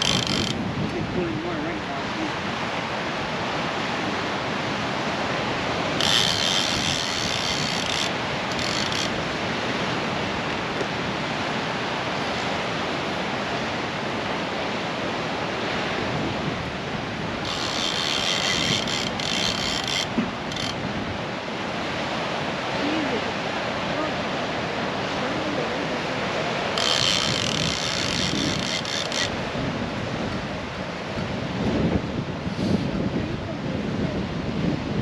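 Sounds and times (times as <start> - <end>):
ocean surf rushing: 0.0 - 35.0
wind on microphone: 0.0 - 35.0.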